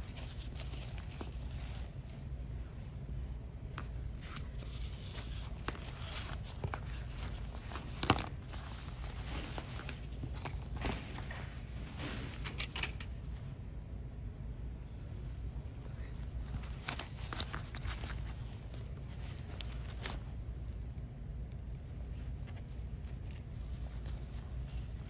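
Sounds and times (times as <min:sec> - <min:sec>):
fabric and plastic rustling: 0:00.0 - 0:13.5, 0:15.9 - 0:20.8, 0:21.9 - 0:25.0
steady low hum: 0:00.0 - 0:25.0.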